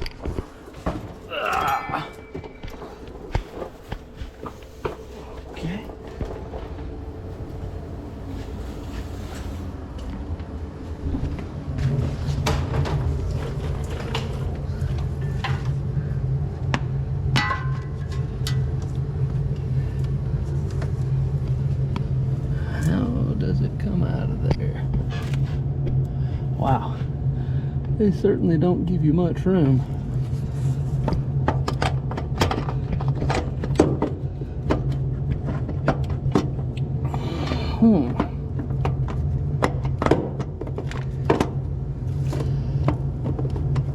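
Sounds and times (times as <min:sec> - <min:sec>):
steady low hum: 0:00.0 - 0:43.9
steady low rumble: 0:00.0 - 0:43.9.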